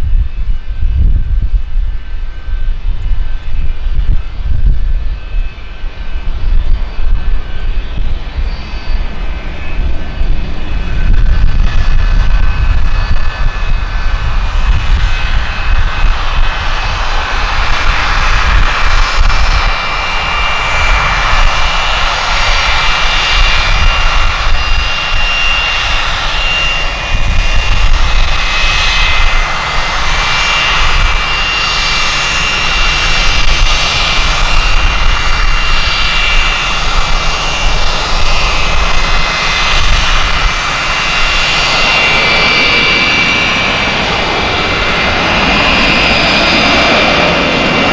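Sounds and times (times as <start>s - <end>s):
gusty wind rumble: 0.0s - 47.9s
jet engines running with high whine: 0.0s - 47.9s.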